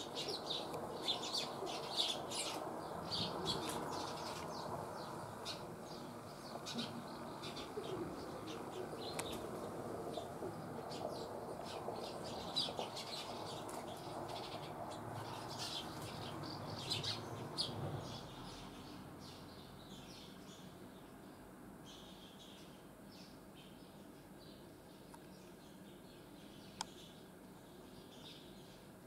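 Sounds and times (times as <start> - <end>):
low background noise: 0.0 - 29.0
small birds chirping: 0.0 - 29.0.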